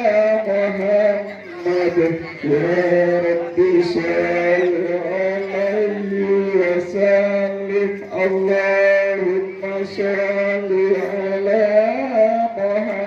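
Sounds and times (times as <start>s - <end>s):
men chanting a prayer: 0.0s - 13.0s.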